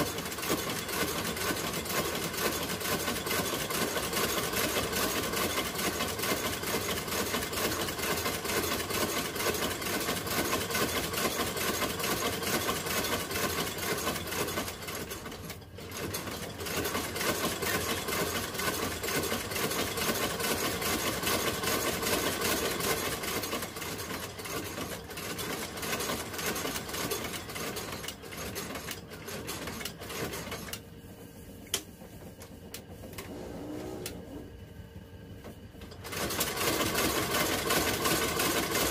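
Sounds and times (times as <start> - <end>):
stitching machine clattering: 0.0 - 30.8, 35.8 - 38.9.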